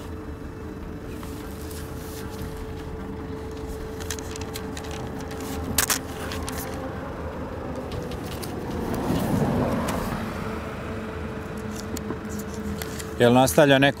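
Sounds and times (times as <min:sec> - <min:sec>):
engine humming: 0:00.0 - 0:14.0
road noise rushing: 0:00.0 - 0:14.0.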